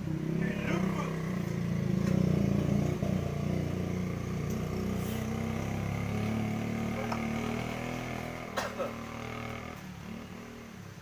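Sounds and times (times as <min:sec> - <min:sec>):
small engine running: 0:00.0 - 0:10.7.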